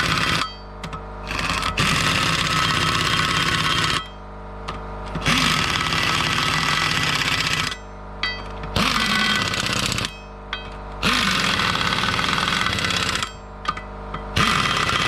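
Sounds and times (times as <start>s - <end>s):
impact wrench hammering: 0.0s - 15.0s.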